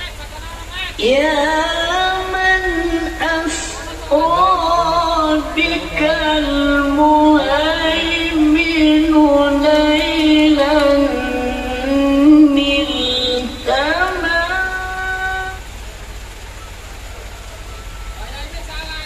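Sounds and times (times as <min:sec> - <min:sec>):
person singing devotional song: 0:00.0 - 0:15.7
steady hiss: 0:00.0 - 0:19.0
low bass: 0:01.5 - 0:18.0.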